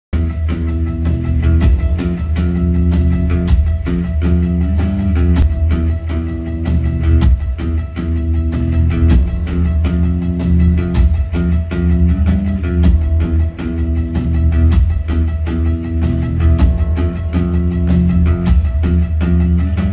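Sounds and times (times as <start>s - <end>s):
bass line: 0.1s - 19.9s
keyboard notes: 0.2s - 19.9s
sustained guitar notes: 0.2s - 19.9s
drum beat: 1.2s - 6.0s, 8.4s - 19.8s.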